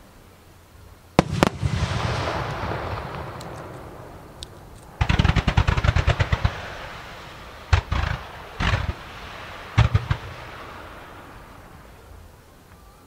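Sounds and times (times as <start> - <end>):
firework launch bangs: 1.2 - 12.1.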